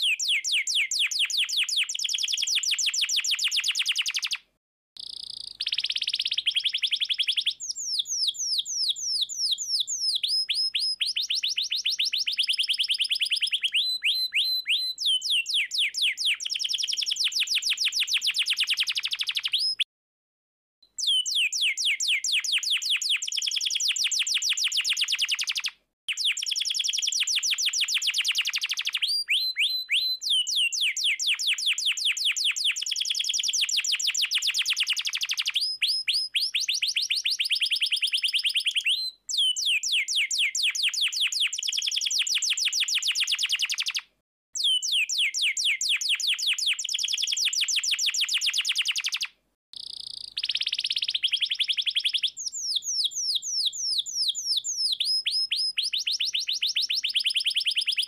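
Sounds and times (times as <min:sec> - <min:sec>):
canary singing rolling trills: 0:05.0 - 0:19.8, 0:21.0 - 0:44.0, 0:44.6 - 0:58.0.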